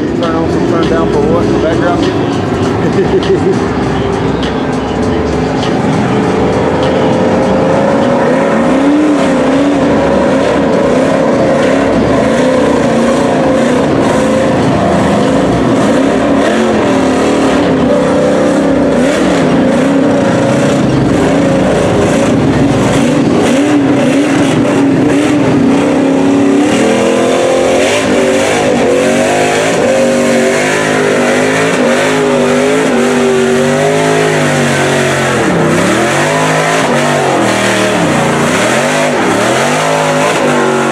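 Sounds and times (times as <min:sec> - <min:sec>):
truck engine revving: 0:00.0 - 0:40.9.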